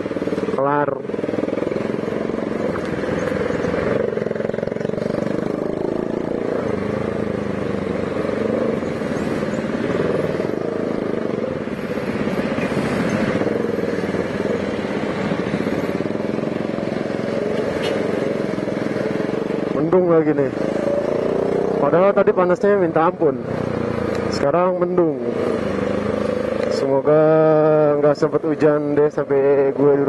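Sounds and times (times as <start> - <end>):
harsh motorcycle engine running: 0.0 - 30.0.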